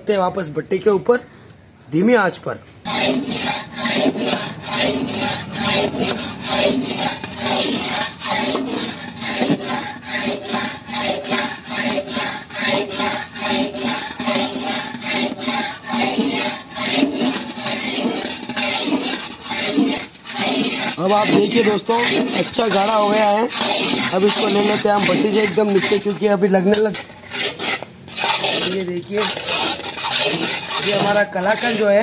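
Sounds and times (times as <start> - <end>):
metal spatula scraping metal pan: 2.8 - 32.0.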